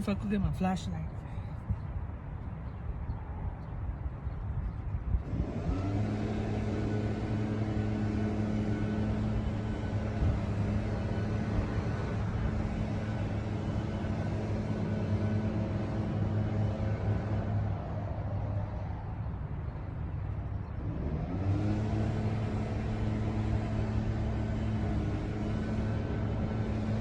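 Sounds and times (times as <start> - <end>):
engine hum: 0.0 - 27.0.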